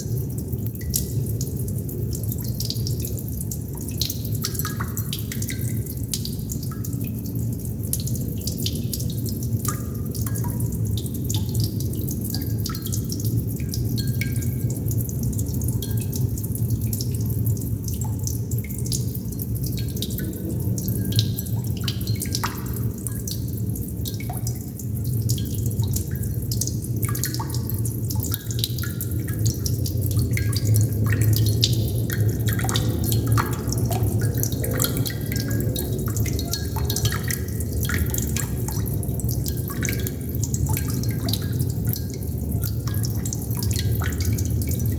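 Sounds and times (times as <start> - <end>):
water droplets dripping: 0.0 - 44.9.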